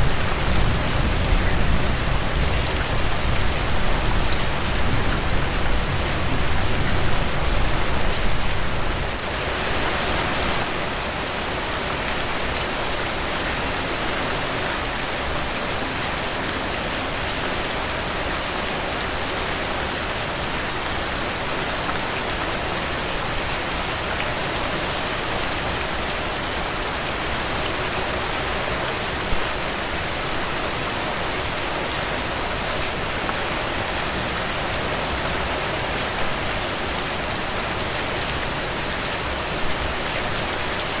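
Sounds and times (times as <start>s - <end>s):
rain falling on leaves: 0.0s - 41.0s.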